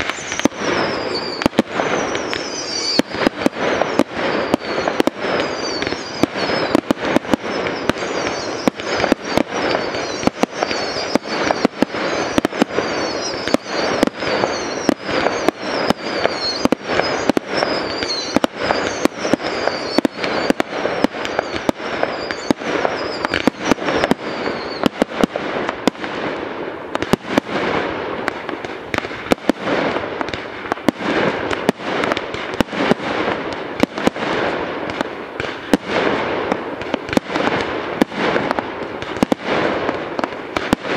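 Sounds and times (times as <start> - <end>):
falling firework whistles: 0.0 - 40.9
firework bangs: 0.0 - 40.9
fireworks crackling: 0.0 - 40.9.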